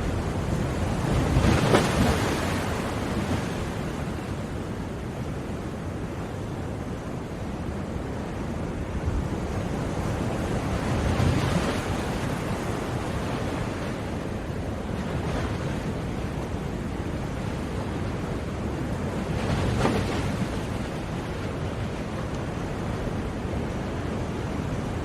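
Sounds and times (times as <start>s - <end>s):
sea waves breaking: 0.0s - 6.0s, 8.6s - 25.0s.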